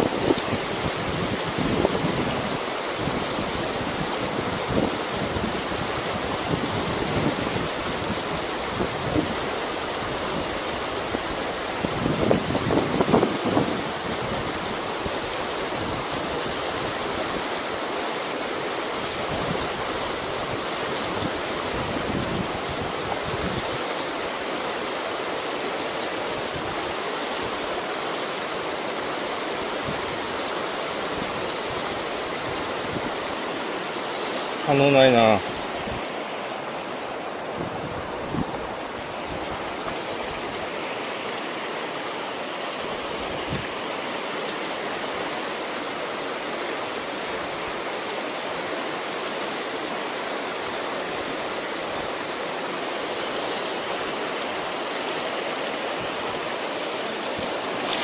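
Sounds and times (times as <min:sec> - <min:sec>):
river rapids rushing over boulders: 0:00.0 - 0:58.0.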